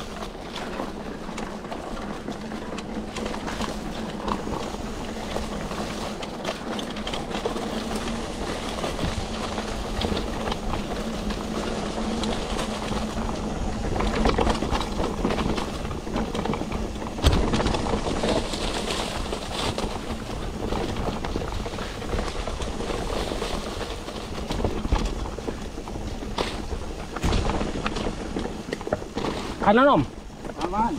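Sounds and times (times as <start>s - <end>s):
bike knocking over bumps: 0.0s - 30.9s
bike tyres and rattle on dirt: 0.0s - 30.9s.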